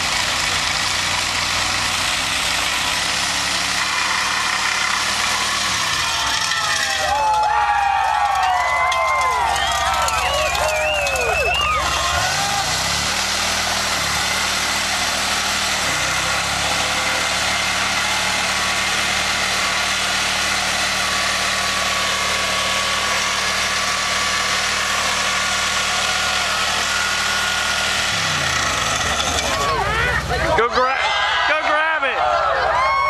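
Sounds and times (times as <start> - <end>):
steel rim grinding on pavement: 0.0 - 30.4
truck engine revving high: 0.0 - 33.0.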